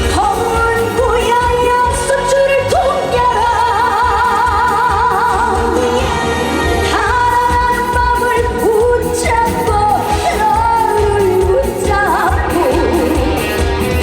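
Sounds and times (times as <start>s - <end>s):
woman singing: 0.0s - 13.8s
band accompaniment: 0.0s - 14.0s.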